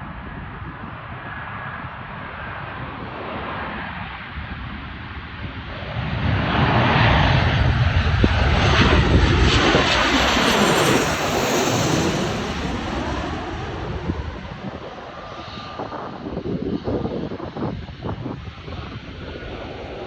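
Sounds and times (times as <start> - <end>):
jet airliner passing: 0.2 - 20.0.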